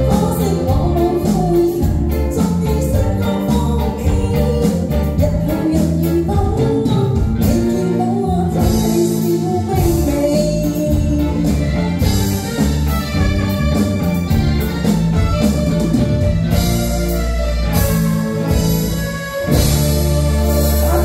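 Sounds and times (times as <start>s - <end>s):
live band playing pop: 0.0s - 21.0s.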